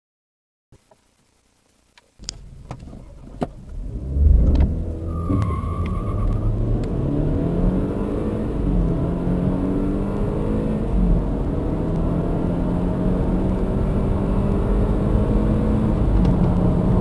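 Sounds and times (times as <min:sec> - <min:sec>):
car engine accelerating hard: 0:02.2 - 0:17.0.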